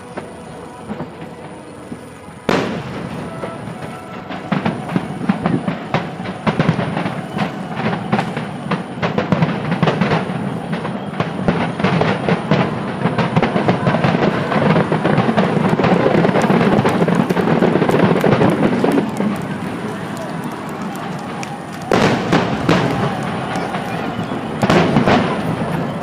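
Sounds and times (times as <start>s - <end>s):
continuous rumble: 0.0s - 26.0s
fireworks bangs and crackles: 0.0s - 26.0s.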